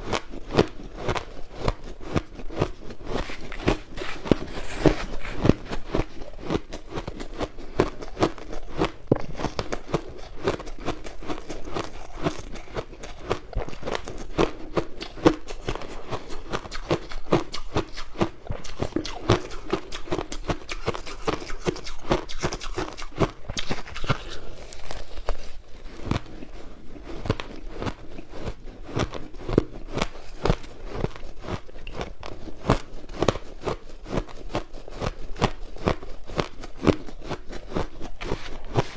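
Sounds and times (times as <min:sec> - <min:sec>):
crushed ice being chewed: 0:00.0 - 0:38.9.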